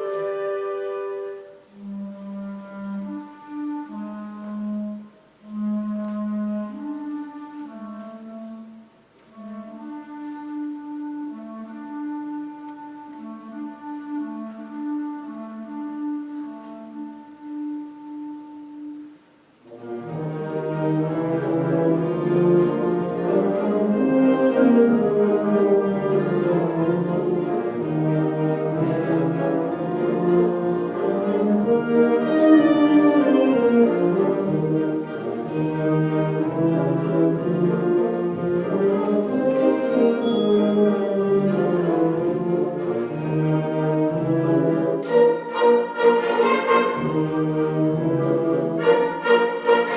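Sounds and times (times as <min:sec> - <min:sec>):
orchestral music with brass: 0:00.0 - 0:49.9.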